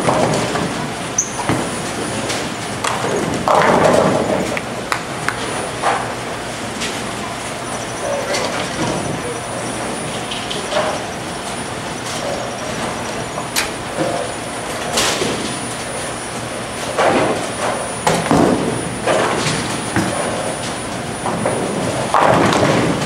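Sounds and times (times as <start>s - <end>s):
bowling pins clattering: 0.0s - 16.0s, 16.8s - 23.0s
bowling balls rumbling: 0.0s - 23.0s.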